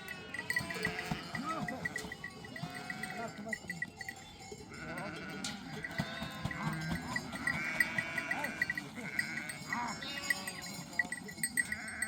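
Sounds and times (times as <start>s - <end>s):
livestock bells clinking: 0.0s - 12.0s
sheep and goats bleating: 0.0s - 12.0s.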